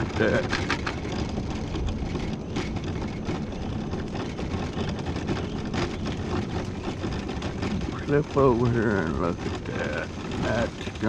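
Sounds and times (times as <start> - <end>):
mobility scooter motor and tyres: 0.0 - 11.0.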